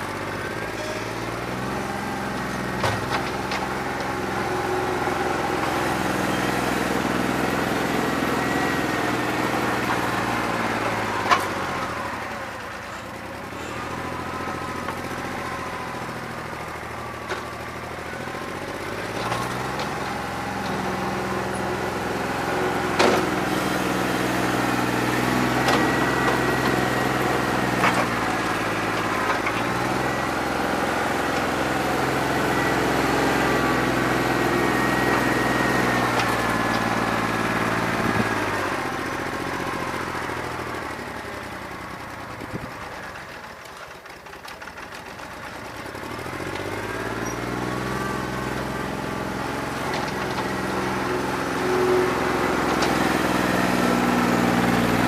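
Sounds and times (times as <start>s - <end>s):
diesel tractor engine running unevenly: 0.0s - 55.0s.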